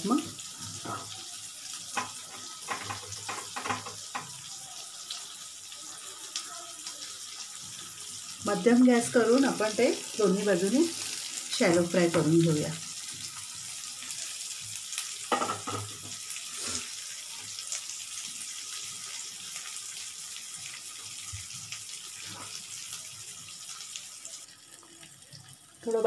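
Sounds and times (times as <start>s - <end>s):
potato slices sizzling in oil: 0.0s - 26.0s.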